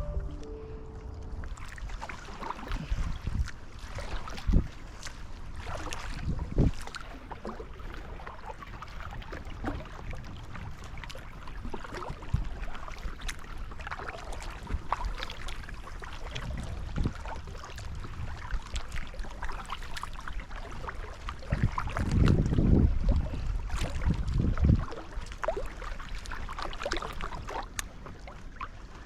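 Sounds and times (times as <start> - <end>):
wind on microphone: 0.0 - 13.2, 14.4 - 20.0, 20.6 - 25.3
water splashing and lapping: 0.0 - 29.0.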